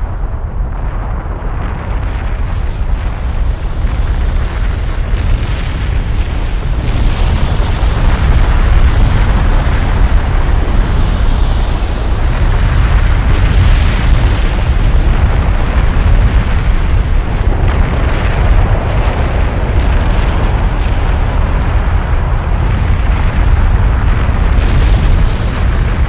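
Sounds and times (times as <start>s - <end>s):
volcano deep rumble: 0.0s - 26.0s.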